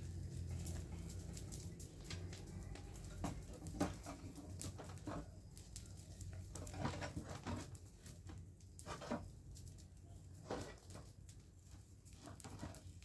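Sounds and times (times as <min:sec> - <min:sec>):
dry debris crunching: 0:00.0 - 0:13.0.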